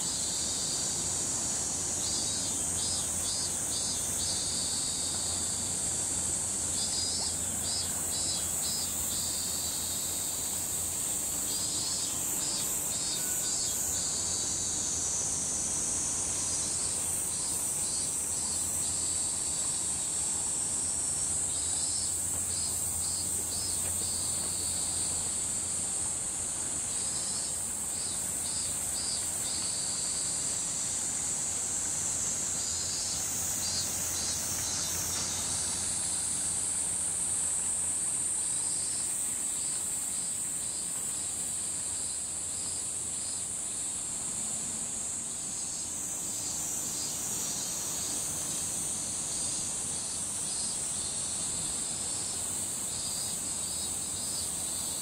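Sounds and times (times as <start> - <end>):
cicada pulsing call: 0.0 - 55.0
cicadas shrilling: 0.0 - 55.0.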